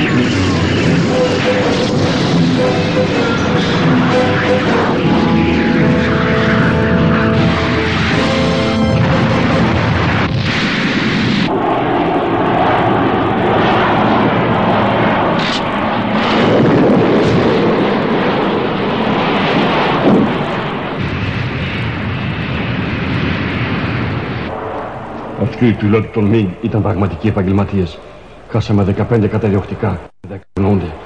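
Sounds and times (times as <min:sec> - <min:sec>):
explosions: 0:00.0 - 0:25.6
jet engine rushing: 0:00.0 - 0:26.9.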